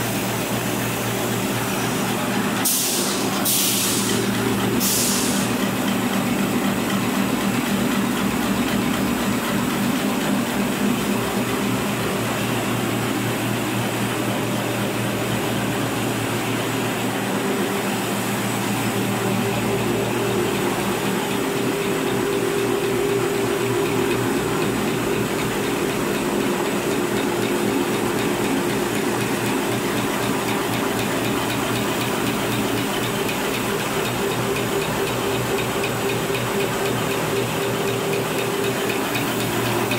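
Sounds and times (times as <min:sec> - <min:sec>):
machine humming: 0:00.0 - 0:39.9.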